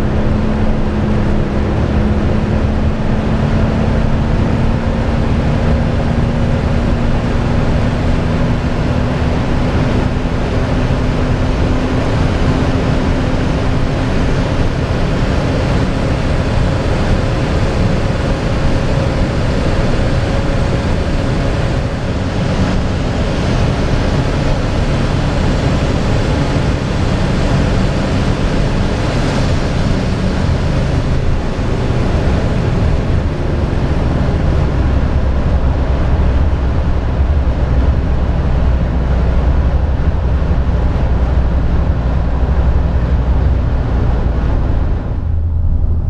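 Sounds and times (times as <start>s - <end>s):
low rumble: 0.0s - 46.0s
wind and road noise: 0.0s - 46.0s.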